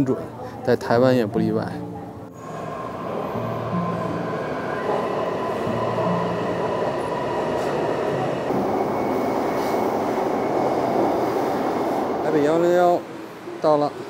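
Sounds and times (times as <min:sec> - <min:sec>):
train wheels rolling on track: 0:02.4 - 0:14.0.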